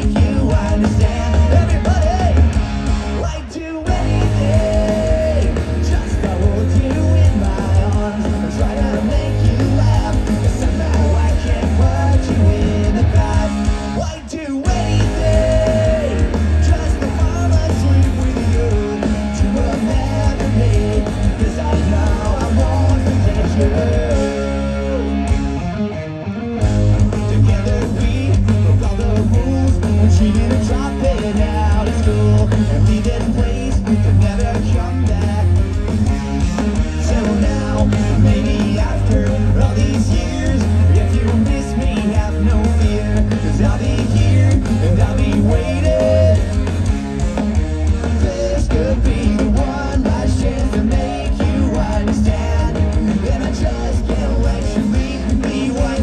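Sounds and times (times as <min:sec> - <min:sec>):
live pop-punk band with singing: 0:00.0 - 0:56.0.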